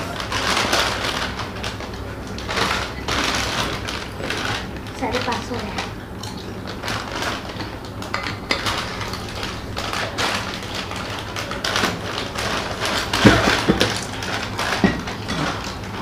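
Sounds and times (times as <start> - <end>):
plastic chip packets crinkling: 0.0 - 16.0.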